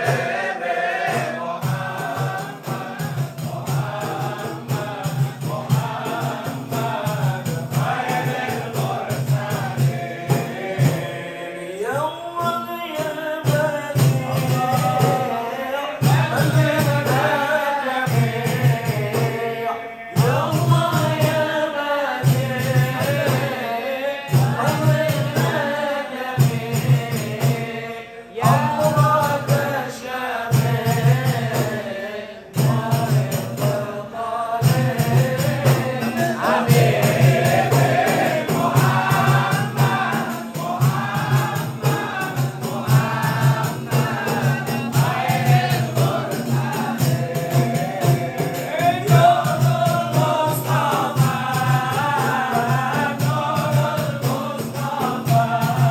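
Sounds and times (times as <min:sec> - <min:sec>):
men singing devotional chant: 0:00.0 - 0:55.9
percussion beat: 0:00.0 - 0:55.9.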